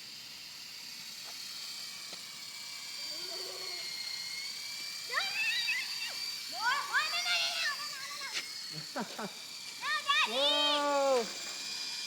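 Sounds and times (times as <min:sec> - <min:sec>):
rc helicopter rotor whine: 0:00.0 - 0:12.0.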